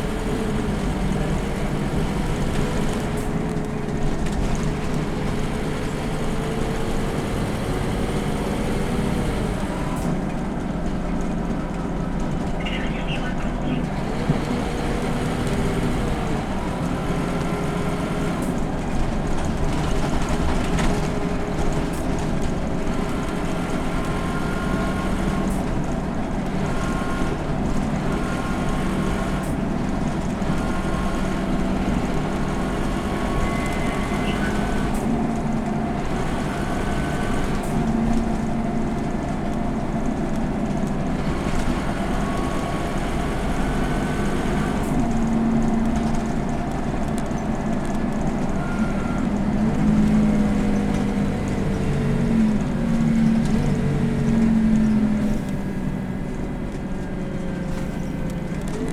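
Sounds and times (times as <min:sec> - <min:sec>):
bus diesel engine under load: 0:00.0 - 0:58.9
road rumble: 0:00.0 - 0:58.9.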